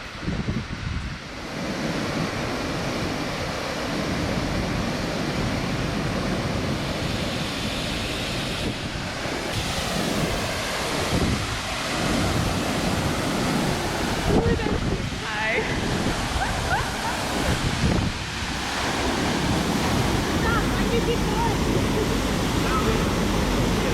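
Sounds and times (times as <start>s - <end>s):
rushing sea water: 0.0s - 23.9s
wind buffeting microphone: 0.0s - 23.9s.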